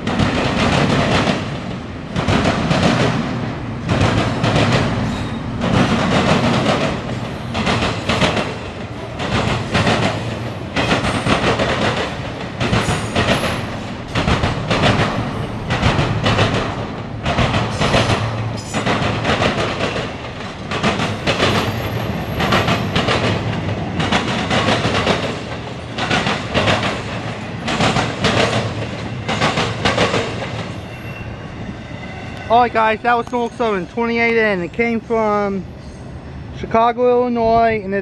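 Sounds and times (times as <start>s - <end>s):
freight train wheels clacking: 0.0s - 35.7s.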